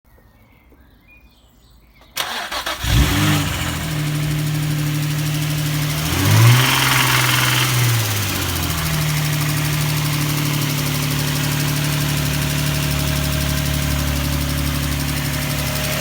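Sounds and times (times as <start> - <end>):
car engine revving and idling: 2.2 - 16.0
starter motor cranking: 2.2 - 16.0.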